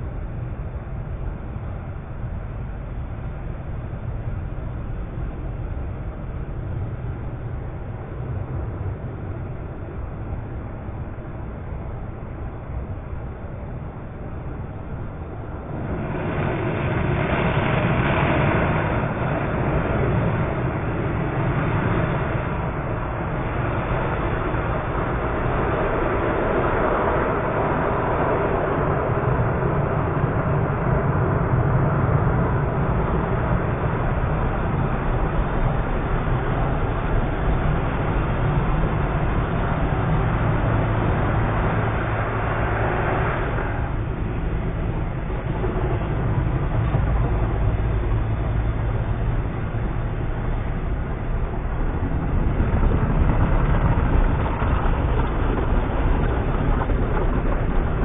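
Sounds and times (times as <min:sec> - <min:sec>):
engine and road noise rumble: 0:00.0 - 0:58.0.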